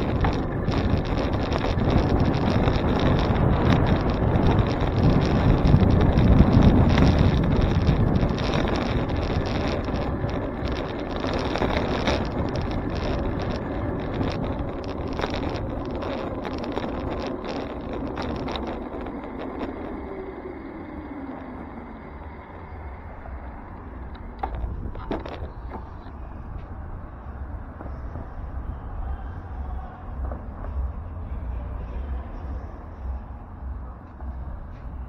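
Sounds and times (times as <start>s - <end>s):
bicycle rattling over bumps: 0.0s - 35.0s
road and tyre noise: 0.0s - 35.0s
wind noise on microphone: 0.0s - 35.0s.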